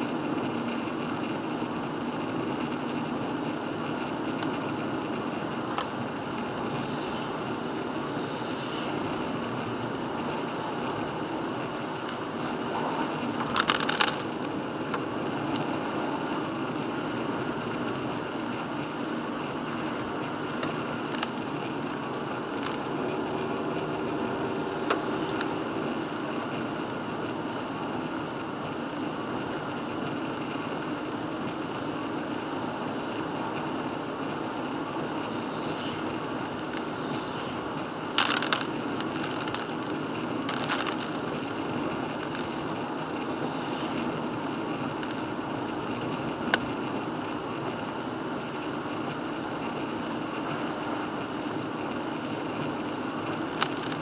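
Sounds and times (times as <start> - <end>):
car engine hum: 0.0 - 54.0
tyres on wet road: 0.0 - 54.0.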